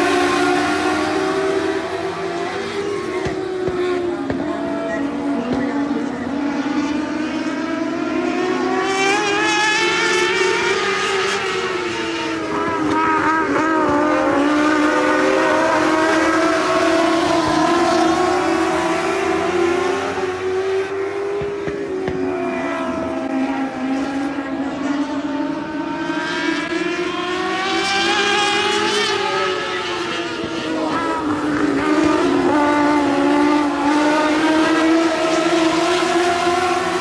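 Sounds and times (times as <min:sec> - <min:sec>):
race cars racing: 0:00.0 - 0:37.0.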